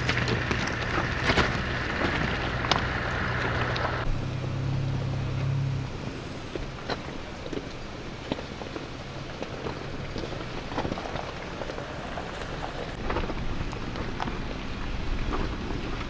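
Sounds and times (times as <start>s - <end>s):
tyres crunching on gravel: 0.0s - 16.0s
vehicle engine rumble: 0.0s - 16.0s.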